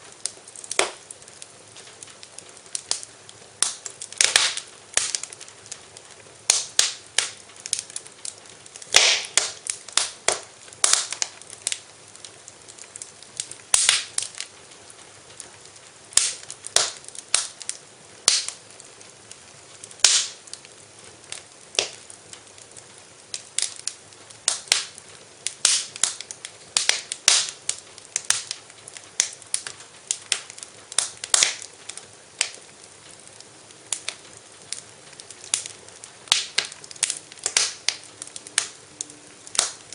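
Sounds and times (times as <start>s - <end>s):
low hiss: 0.0s - 39.9s
wood fire crackling and popping: 0.0s - 39.9s.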